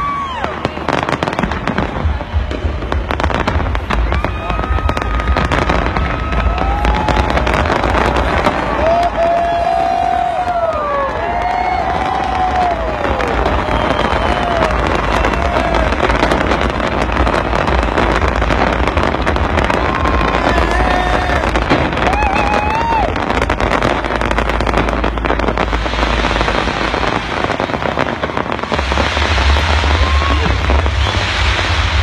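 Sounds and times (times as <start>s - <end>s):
crowd voices shouting: 0.0s - 32.0s
fireworks crackling and banging: 0.0s - 32.0s
low rumble of bursts: 0.0s - 32.0s.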